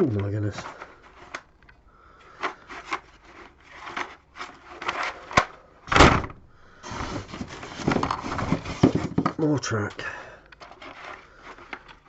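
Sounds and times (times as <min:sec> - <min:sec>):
plastic track pieces scraping: 0:00.0 - 0:05.6, 0:06.8 - 0:12.0.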